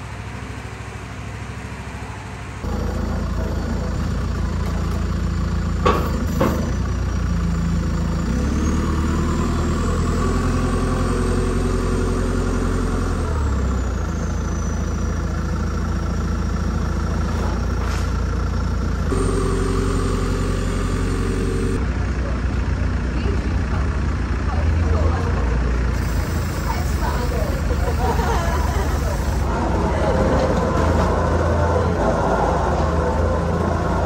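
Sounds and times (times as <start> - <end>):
diesel engine revving: 0.0 - 34.0.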